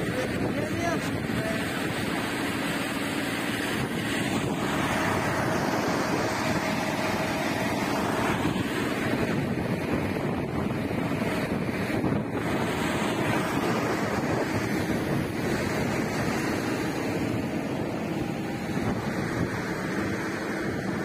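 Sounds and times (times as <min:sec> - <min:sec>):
heavy machinery running: 0:00.0 - 0:21.0
trucks running: 0:00.0 - 0:21.0
wind buffeting microphone: 0:00.0 - 0:21.0.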